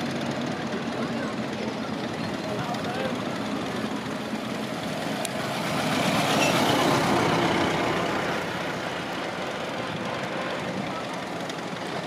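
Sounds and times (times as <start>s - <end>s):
vintage car driving past: 0.0s - 12.0s.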